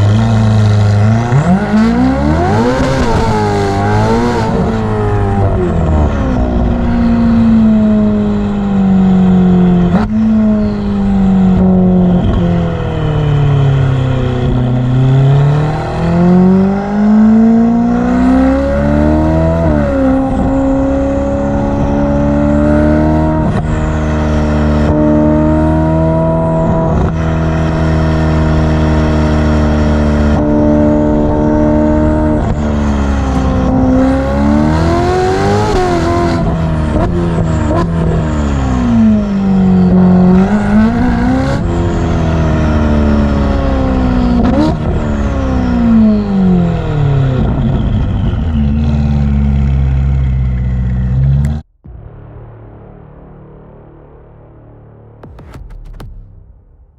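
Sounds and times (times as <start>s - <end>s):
sports car engine accelerating: 0.0s - 52.0s.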